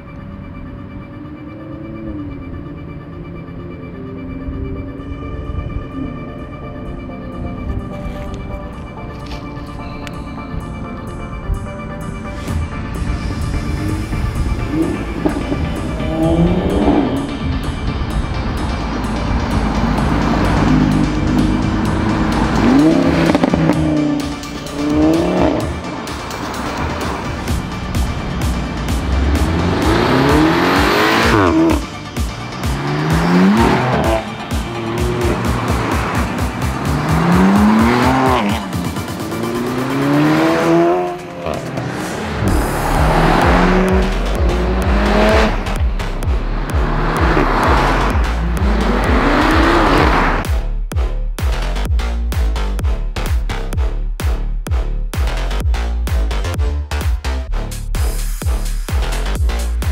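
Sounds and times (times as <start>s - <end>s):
background music with beat: 0.0s - 59.9s
cars pulling away: 0.0s - 59.9s
engine revving: 10.1s - 59.9s.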